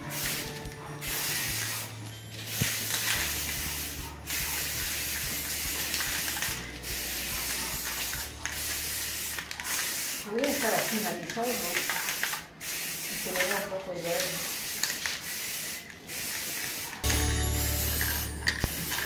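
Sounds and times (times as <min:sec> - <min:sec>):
spray paint can hissing: 0:00.0 - 0:19.0.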